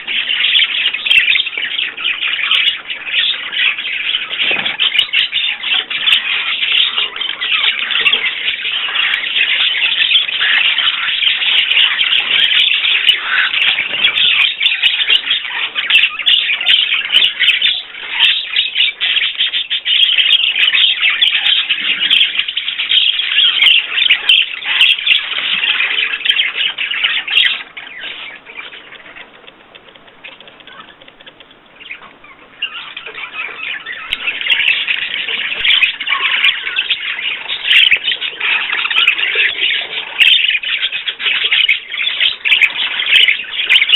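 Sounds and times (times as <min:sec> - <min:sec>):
small birds chirping chorus: 0:00.0 - 0:43.9.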